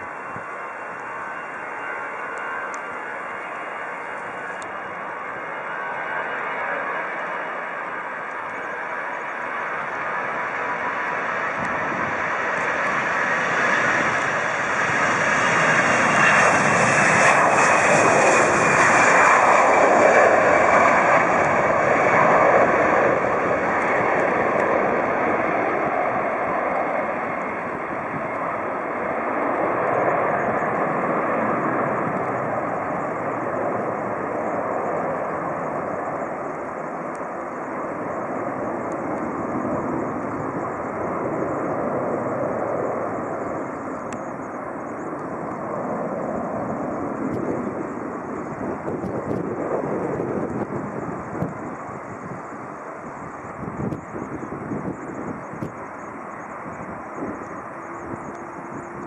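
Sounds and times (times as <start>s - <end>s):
jet airliner taking off: 0.0s - 59.0s.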